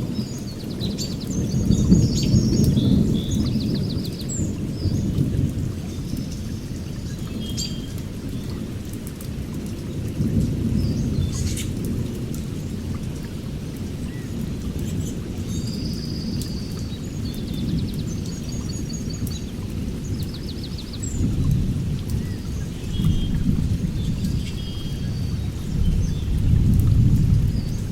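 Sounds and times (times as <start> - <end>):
rolling thunder: 0.0 - 8.8, 9.4 - 15.0, 19.6 - 27.9
steady rain: 0.0 - 27.9.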